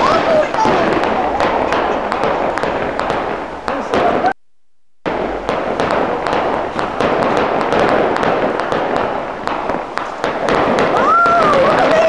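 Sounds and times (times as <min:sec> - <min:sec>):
fireworks hissing and crackling: 0:00.0 - 0:04.4, 0:05.1 - 0:12.0.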